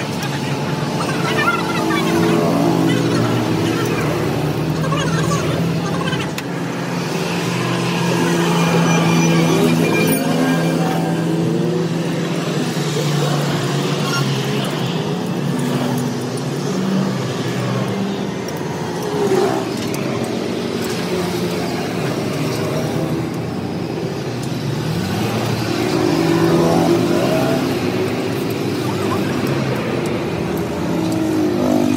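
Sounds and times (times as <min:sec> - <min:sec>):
vehicle engines running: 0:00.0 - 0:31.9.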